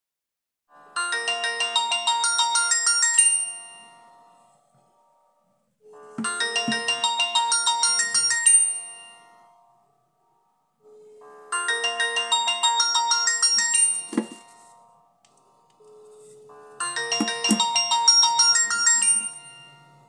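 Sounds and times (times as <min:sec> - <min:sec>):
polyphonic melody ringtone: 0:00.8 - 0:04.8, 0:05.8 - 0:09.9, 0:10.8 - 0:20.0.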